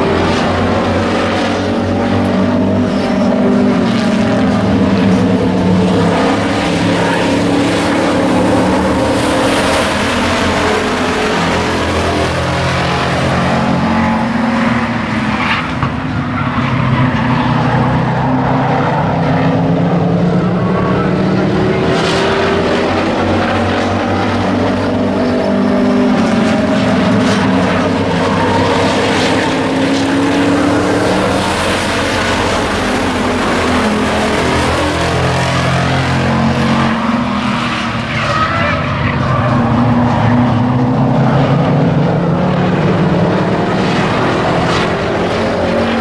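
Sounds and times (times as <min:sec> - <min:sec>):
race truck engines revving: 0:00.0 - 0:46.0.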